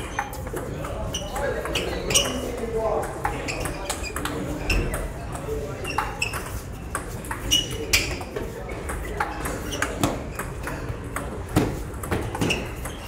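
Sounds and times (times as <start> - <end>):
table tennis ball bouncing on table: 0.0 - 13.0
table tennis ball hitting bats: 0.0 - 13.0.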